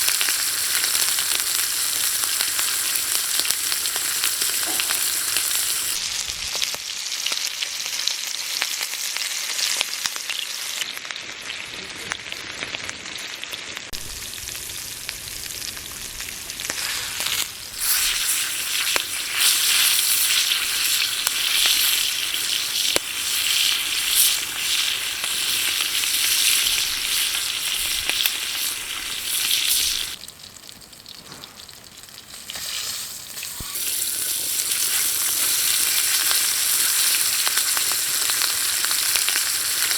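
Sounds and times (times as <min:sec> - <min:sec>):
meat sizzling on a griddle: 0:00.0 - 0:39.9.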